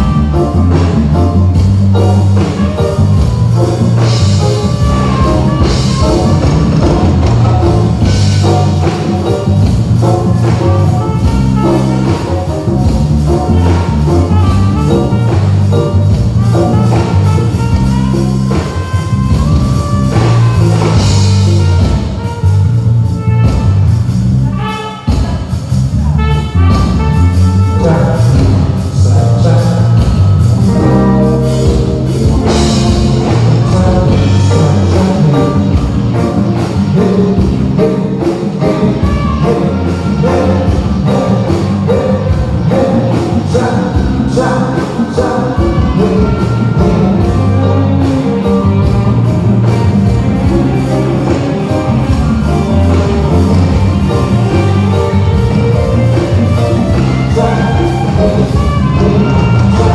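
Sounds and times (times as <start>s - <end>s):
heavy bass and drums: 0.0s - 59.9s
live band playing through speakers: 0.0s - 59.9s.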